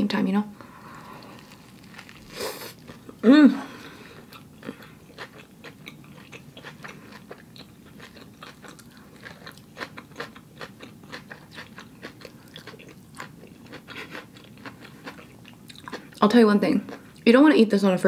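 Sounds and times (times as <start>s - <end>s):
person chewing with crunches: 0.6s - 17.3s.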